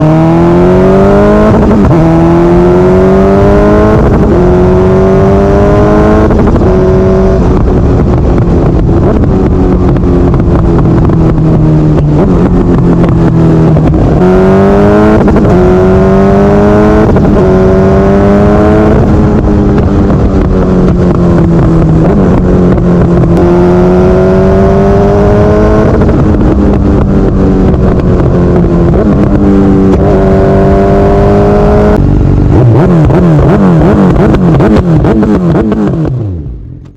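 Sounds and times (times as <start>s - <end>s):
motorcycle engine on rev limiter: 0.0s - 36.9s.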